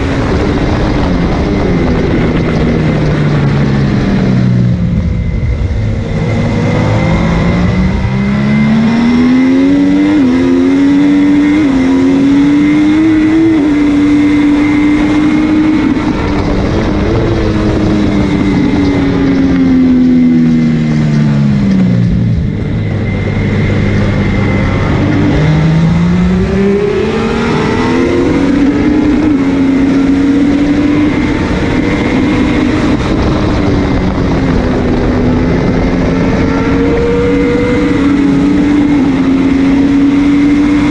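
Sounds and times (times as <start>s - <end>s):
motorcycle engine at racing speed: 0.0s - 40.9s
wind noise: 0.0s - 40.9s.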